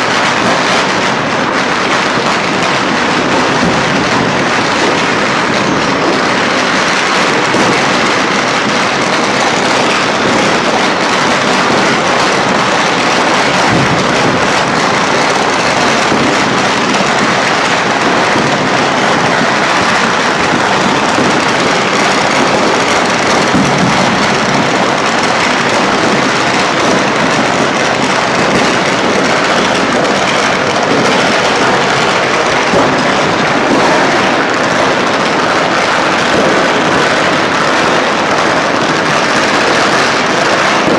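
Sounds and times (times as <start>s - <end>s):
firecrackers and fireworks crackling: 0.0s - 40.9s.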